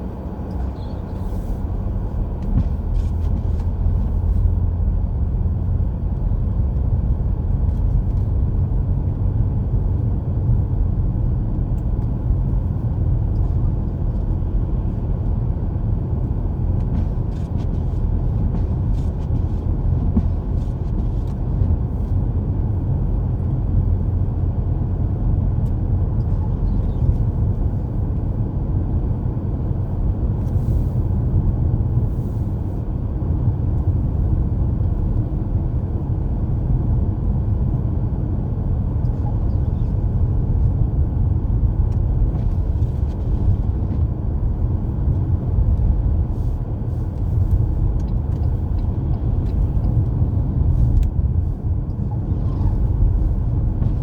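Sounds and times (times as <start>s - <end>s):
car driving on snowy road: 0.0s - 54.0s.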